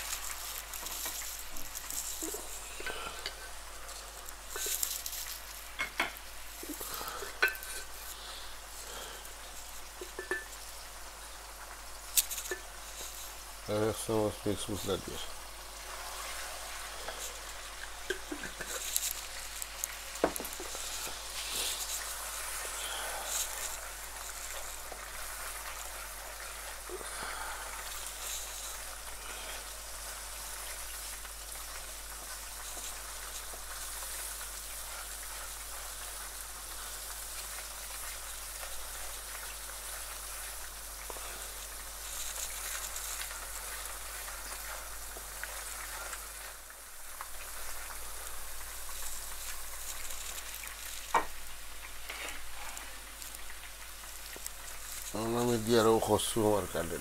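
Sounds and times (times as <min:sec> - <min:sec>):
onions frying in oil: 0:00.0 - 0:57.0.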